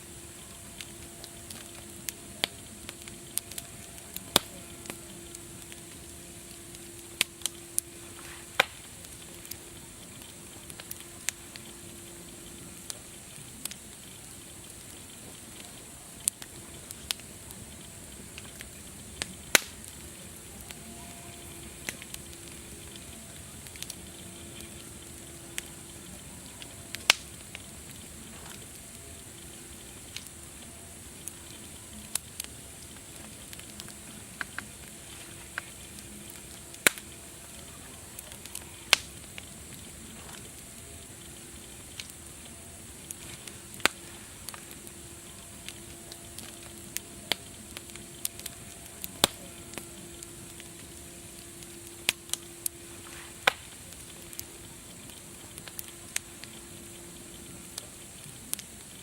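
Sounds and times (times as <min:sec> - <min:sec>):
campfire crackling and popping: 0:00.0 - 0:59.0
steady high hiss: 0:00.0 - 0:59.0.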